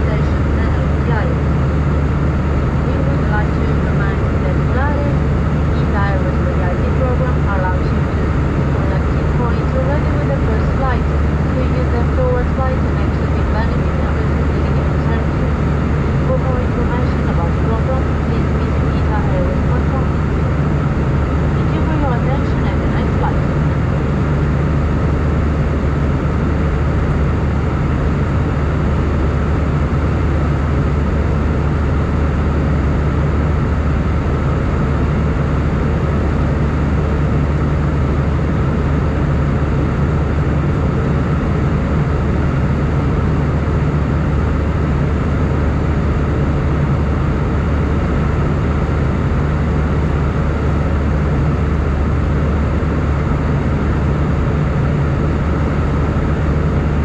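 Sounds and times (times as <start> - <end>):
deep low rumble: 0.0 - 57.0
engine hum: 0.0 - 57.0.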